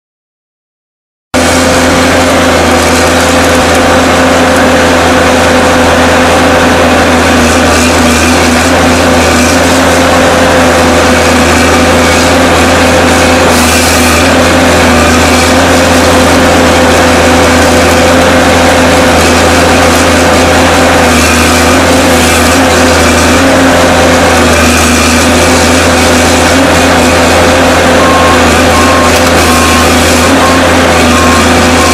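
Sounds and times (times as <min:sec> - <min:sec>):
harvester engine and hydraulics: 0:01.4 - 0:31.9.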